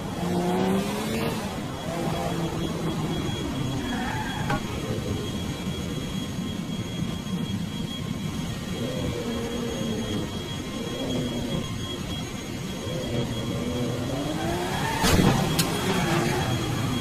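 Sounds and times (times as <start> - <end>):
engine whirring with wavering drone: 0.0 - 17.0.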